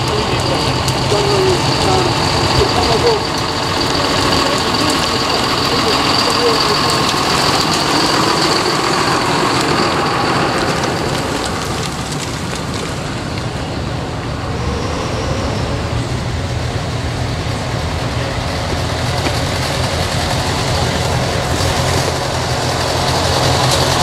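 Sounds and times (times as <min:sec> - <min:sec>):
car passing: 0:00.0 - 0:24.0
tractor diesel engine whining: 0:00.0 - 0:24.0
tractor engine low steady note: 0:00.0 - 0:24.0.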